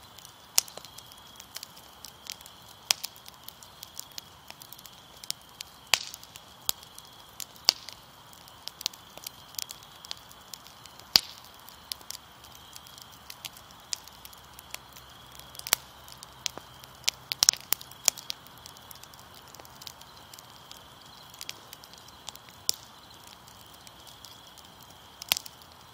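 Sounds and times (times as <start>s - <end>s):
faint steady hiss: 0.0s - 25.9s
fire crackling and popping: 0.0s - 25.9s.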